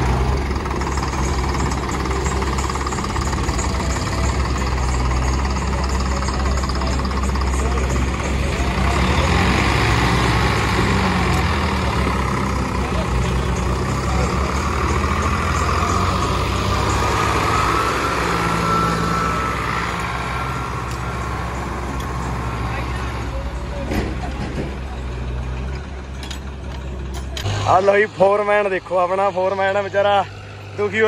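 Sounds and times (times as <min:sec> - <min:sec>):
tractor diesel engines: 0:00.0 - 0:31.0
people talking: 0:03.6 - 0:31.0.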